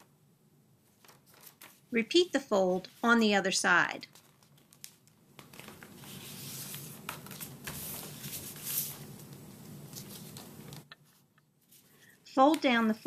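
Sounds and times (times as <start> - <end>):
paper folding and crinkling: 0.8 - 13.0.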